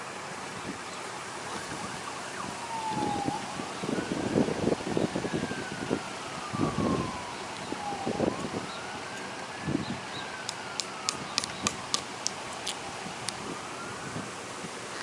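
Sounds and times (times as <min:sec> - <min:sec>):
siren wailing: 0:00.6 - 0:11.9, 0:12.7 - 0:14.4.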